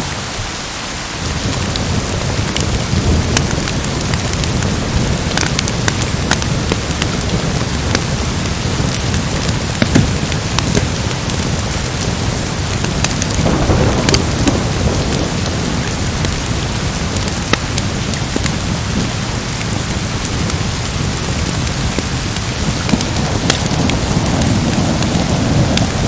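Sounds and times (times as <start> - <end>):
heavy rain: 0.0 - 26.0
low rumble of thunder: 1.2 - 26.0
wood fire crackles: 1.2 - 26.0.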